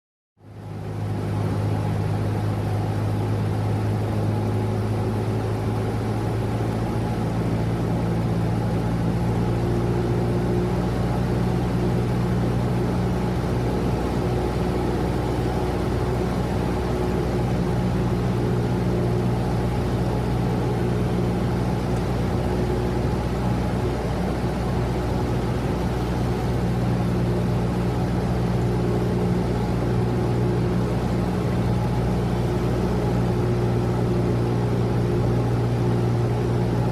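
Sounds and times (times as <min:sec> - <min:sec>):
propeller plane engine drone: 0:00.4 - 0:36.9.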